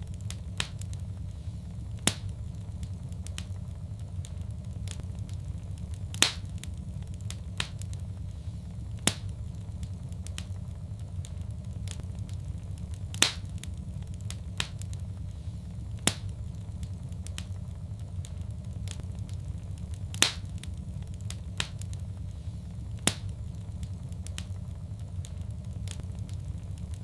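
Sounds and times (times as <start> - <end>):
sharp fire pops: 0.0 - 27.0
wood fire crackling: 0.0 - 27.0.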